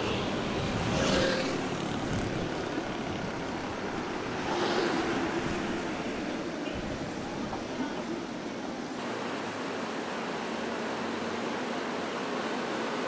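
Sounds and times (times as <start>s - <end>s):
city traffic rushing: 0.0s - 13.0s.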